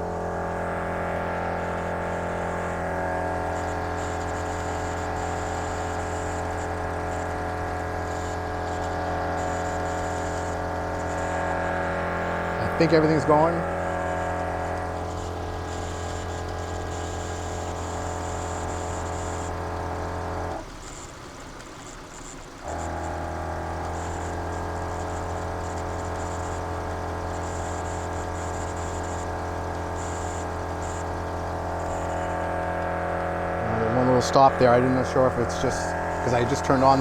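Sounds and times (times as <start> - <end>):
air compressor humming: 0.0 - 37.0.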